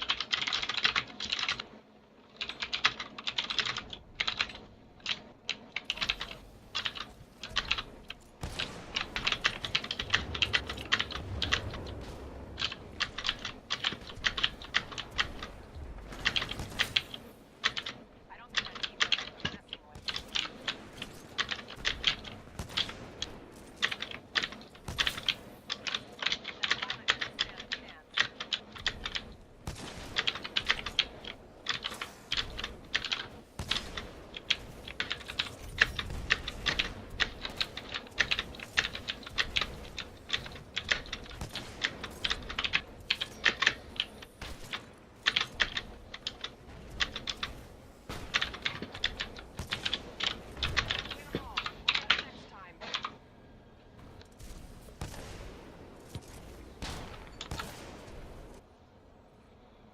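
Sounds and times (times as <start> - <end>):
clicky keyboard typing: 0.0 - 53.2, 56.1 - 58.6.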